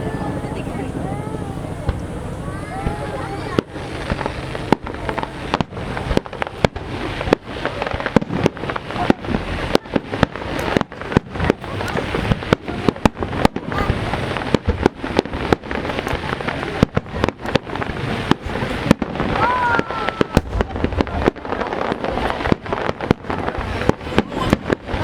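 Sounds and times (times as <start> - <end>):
fireworks exploding: 0.0 - 25.0.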